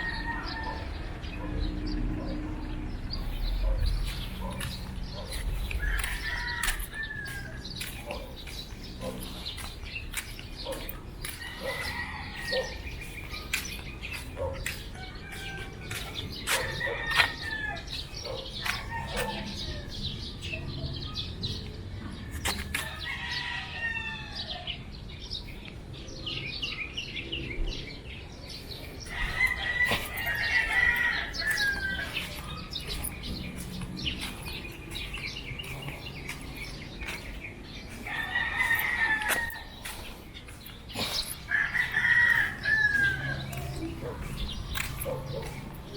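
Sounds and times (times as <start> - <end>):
roosters crowing: 0.0 - 20.2, 22.1 - 25.0, 28.6 - 45.9.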